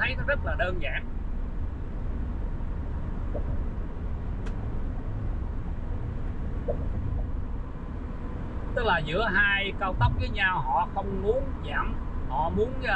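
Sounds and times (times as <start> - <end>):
car engine: 0.0 - 12.9
tyre and road noise: 0.0 - 12.9.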